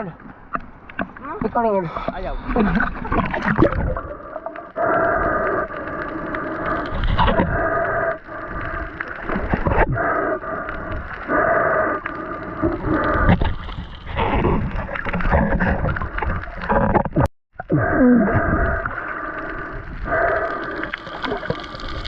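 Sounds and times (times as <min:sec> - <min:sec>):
muffled underwater water surging: 0:00.0 - 0:22.0.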